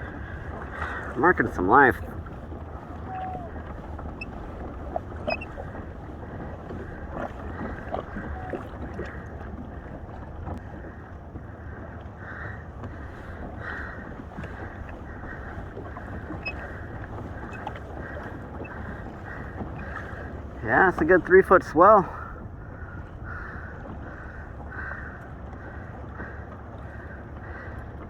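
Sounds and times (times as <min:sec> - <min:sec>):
water sloshing against kayak hull: 0:00.0 - 0:28.0
wind rumbling on microphone: 0:00.0 - 0:28.0.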